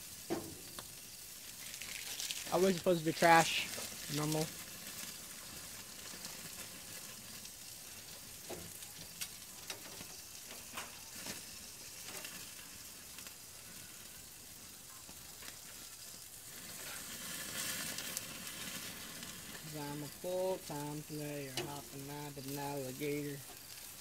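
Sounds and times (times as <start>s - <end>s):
patty sizzling in a frying pan: 0.0s - 24.0s.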